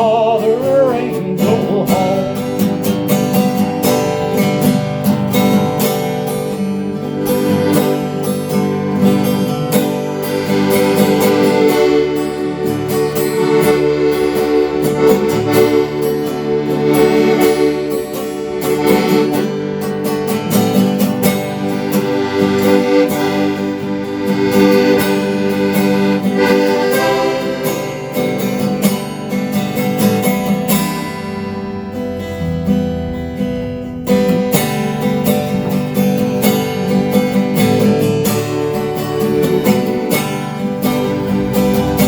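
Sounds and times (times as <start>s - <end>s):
country ballad band playing: 0.0s - 42.0s.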